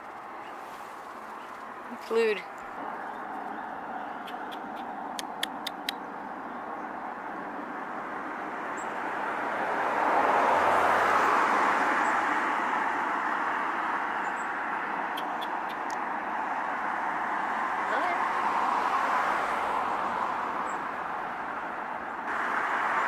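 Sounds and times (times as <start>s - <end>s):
car passing: 0.0s - 23.0s.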